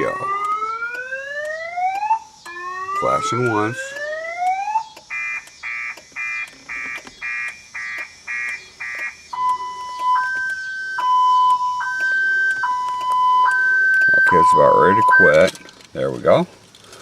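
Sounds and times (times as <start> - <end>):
car alarm siren: 0.0 - 15.5.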